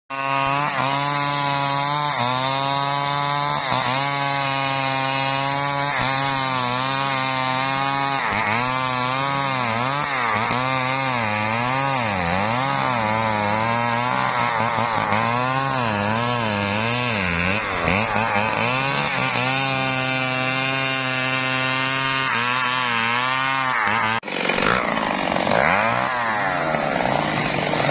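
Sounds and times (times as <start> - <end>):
chainsaw cutting wood: 0.1 - 27.9.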